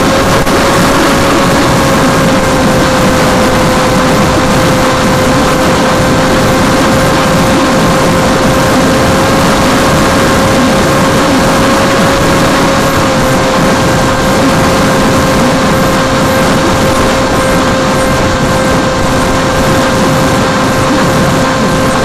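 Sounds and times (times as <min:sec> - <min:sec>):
drone propeller whine: 0:00.0 - 0:22.0
wind rush: 0:00.0 - 0:22.0.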